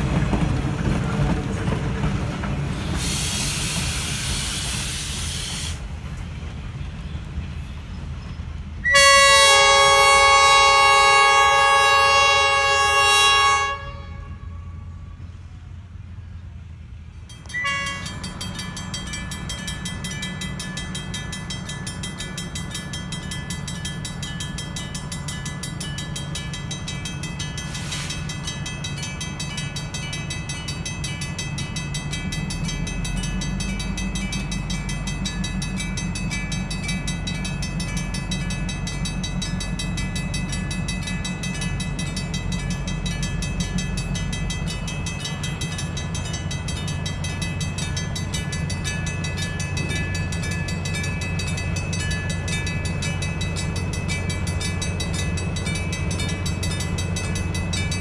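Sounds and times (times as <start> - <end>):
diesel locomotive engine rumbling: 0.0 - 58.0.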